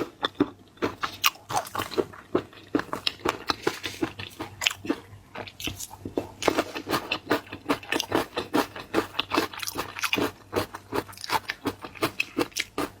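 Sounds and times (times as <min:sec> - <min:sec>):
person chewing crunchy seafood: 0:00.0 - 0:13.0.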